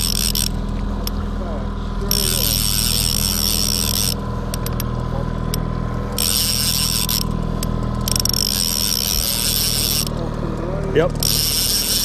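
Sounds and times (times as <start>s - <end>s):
fishing reel clicks: 0.0s - 1.2s, 2.1s - 4.9s, 5.5s - 12.0s
fishing reel whirring: 0.0s - 1.2s, 2.0s - 12.0s
boat motor humming: 0.0s - 12.0s.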